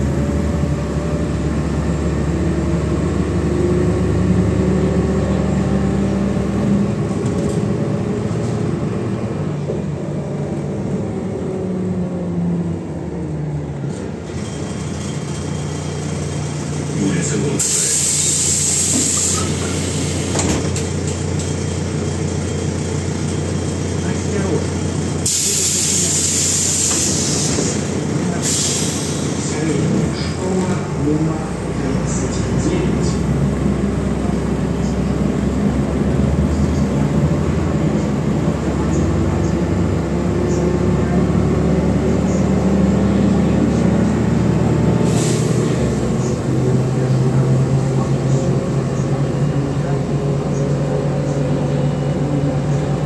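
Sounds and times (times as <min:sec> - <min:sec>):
bus engine idling: 0:00.0 - 0:53.0
road noise: 0:00.0 - 0:53.0.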